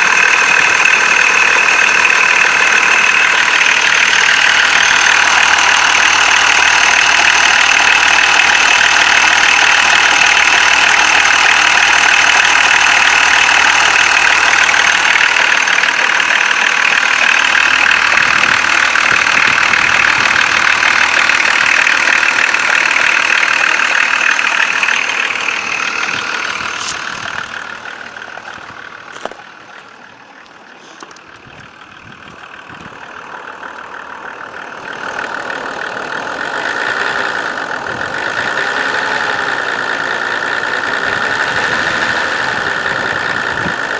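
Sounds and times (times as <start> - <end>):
diesel engine knocking: 0.0 - 43.9.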